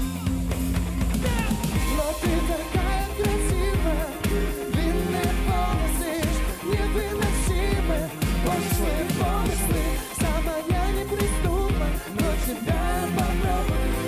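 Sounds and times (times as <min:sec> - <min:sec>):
drums: 0:00.0 - 0:14.0
electric bass: 0:00.0 - 0:14.0
electric guitar: 0:00.0 - 0:14.0
man singing: 0:01.2 - 0:14.0.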